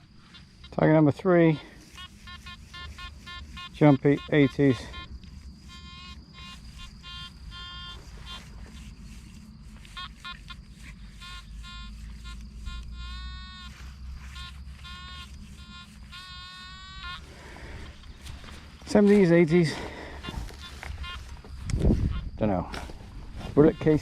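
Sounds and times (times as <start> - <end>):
low steady rumble: 0.0 - 24.0
metal detector beeping: 0.0 - 24.0.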